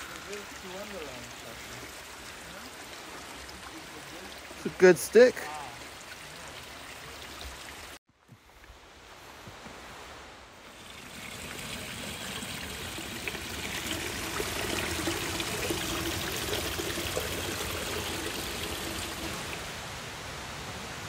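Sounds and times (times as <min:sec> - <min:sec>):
mountain stream rushing: 0:00.0 - 0:08.0, 0:08.6 - 0:21.0.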